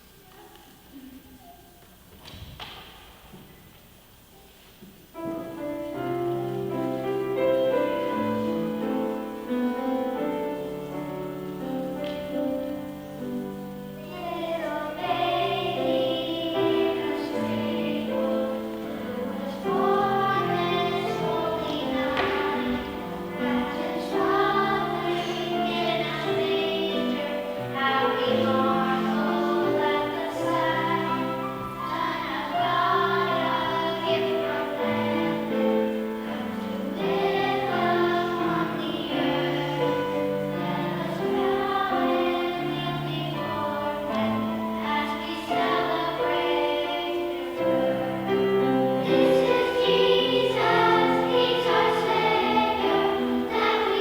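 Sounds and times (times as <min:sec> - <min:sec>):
choir singing with accompaniment: 0:05.1 - 0:54.0.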